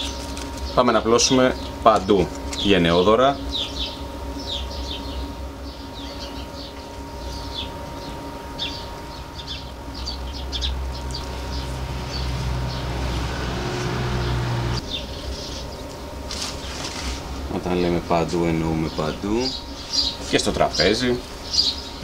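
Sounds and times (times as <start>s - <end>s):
small birds chirping: 0.0s - 16.8s, 17.6s - 22.0s
low mechanical hum: 0.0s - 22.0s.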